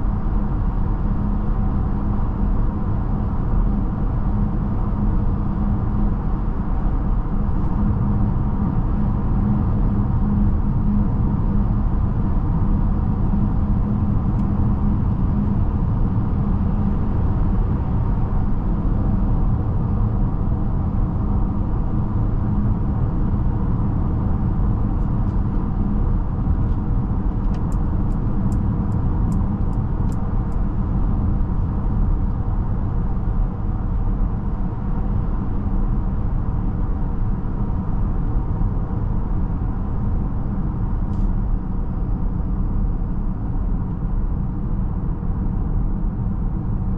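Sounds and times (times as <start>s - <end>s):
road and tyre rumble in car: 0.0s - 46.9s.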